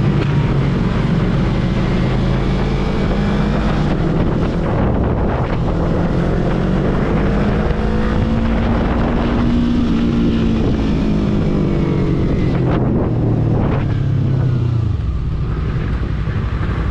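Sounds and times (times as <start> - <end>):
motorcycle engine at speed: 0.0 - 16.9
wind rushing: 0.0 - 16.9.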